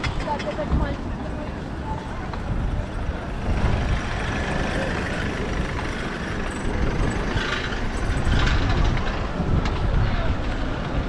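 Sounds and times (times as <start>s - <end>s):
city street traffic: 0.0s - 11.0s
heavy vehicle engine running: 1.6s - 11.0s.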